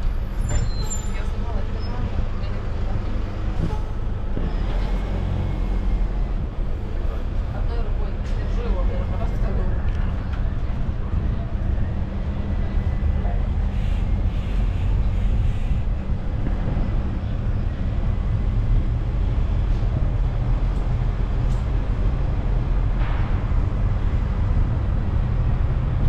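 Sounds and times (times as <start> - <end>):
tourist train rumbling: 0.0 - 26.0.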